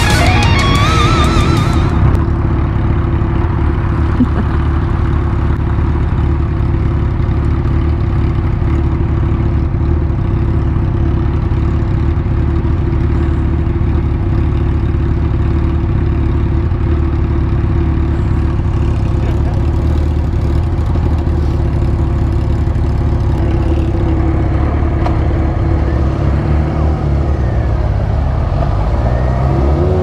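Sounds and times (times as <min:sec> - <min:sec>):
motorcycle engines idling: 0:00.0 - 0:29.4.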